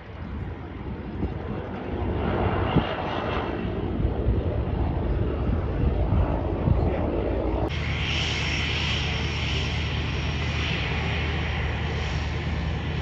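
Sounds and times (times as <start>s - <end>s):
small plane engine running: 0.0s - 13.0s.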